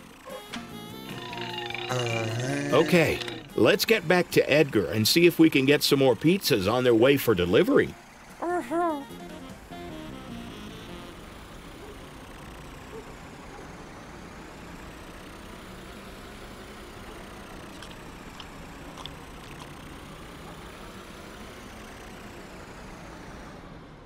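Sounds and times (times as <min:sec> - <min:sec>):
cartoon truck engines running: 0:00.0 - 0:24.0.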